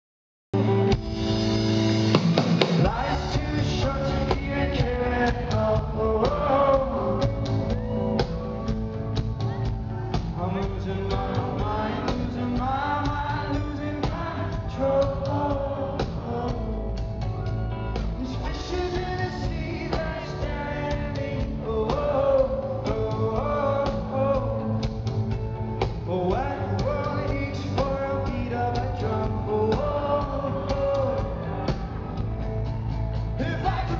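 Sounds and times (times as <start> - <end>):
live rock band playing: 0.6 - 33.9.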